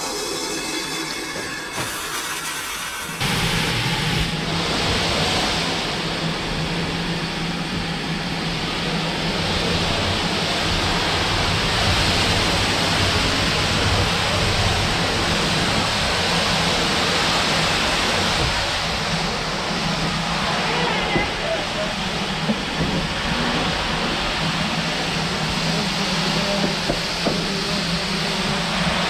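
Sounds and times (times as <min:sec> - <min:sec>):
model locomotive hissing: 0:00.0 - 0:29.0.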